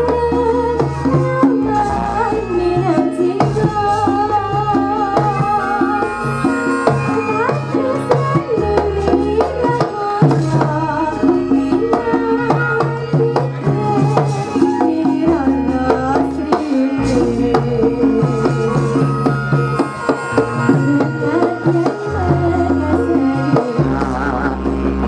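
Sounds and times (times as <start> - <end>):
hand drum strokes: 0.0 - 25.0
metallophone melody notes: 0.0 - 25.0.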